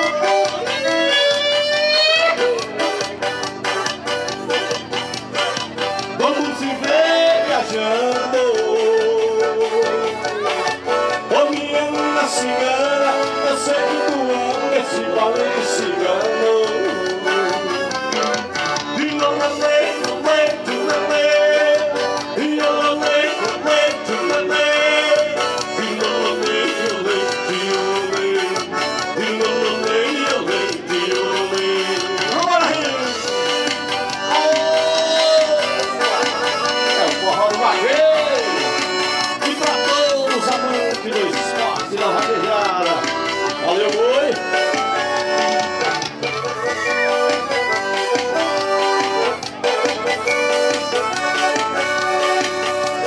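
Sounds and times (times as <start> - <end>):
accordion melody: 0.0 - 53.0
live band playing: 0.0 - 53.0
steady percussion beat: 0.0 - 53.0.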